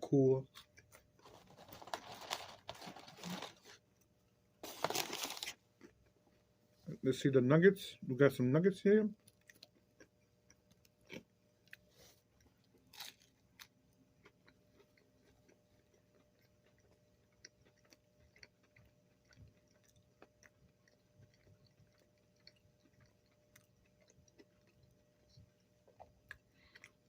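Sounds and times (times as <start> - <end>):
chewing food: 0.4 - 6.2, 9.2 - 27.0.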